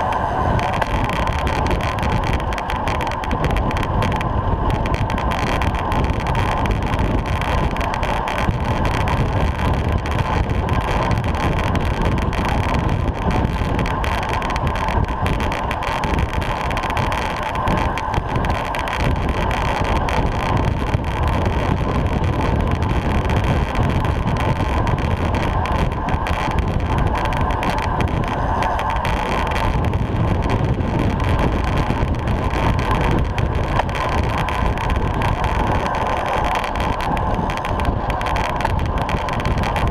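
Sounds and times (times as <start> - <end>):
bike tyres humming on tarmac: 0.0 - 39.9
wind rushing over microphone: 0.0 - 39.9.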